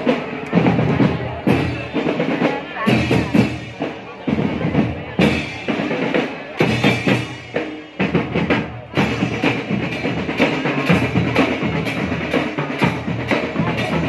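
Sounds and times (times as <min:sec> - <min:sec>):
marching drumline: 0:00.0 - 0:14.0.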